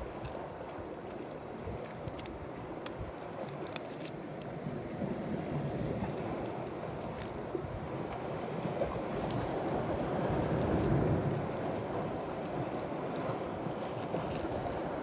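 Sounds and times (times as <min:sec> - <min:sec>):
sea water washing over rocks: 0:00.0 - 0:15.0.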